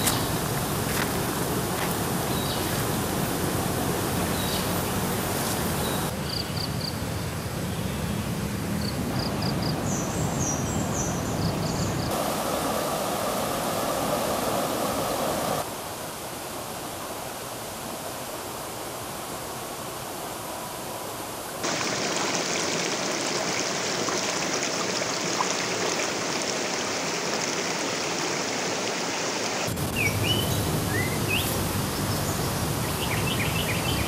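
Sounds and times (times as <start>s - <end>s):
river water rushing: 0.0s - 6.1s, 12.1s - 20.8s, 21.6s - 34.0s.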